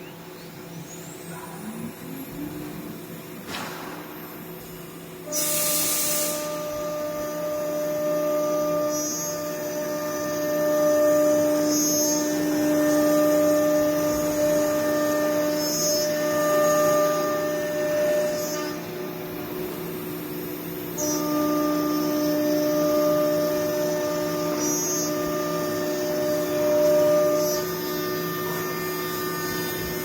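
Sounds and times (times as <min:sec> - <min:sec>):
machine whine: 0:00.0 - 0:30.0.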